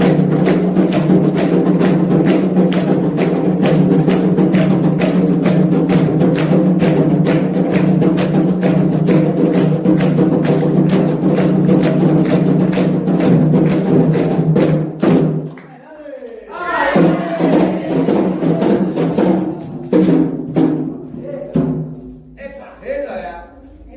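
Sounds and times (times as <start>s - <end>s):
hand drums playing: 0.0s - 15.5s, 16.6s - 22.4s.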